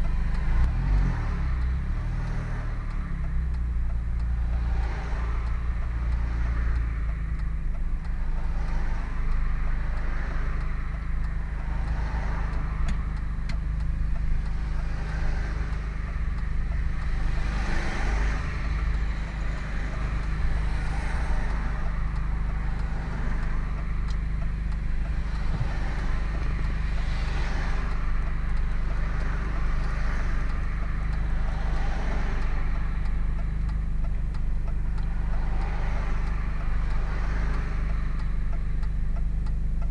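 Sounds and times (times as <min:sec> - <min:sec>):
car engine and exhaust drone: 0:00.0 - 0:39.9
road noise: 0:00.0 - 0:39.9.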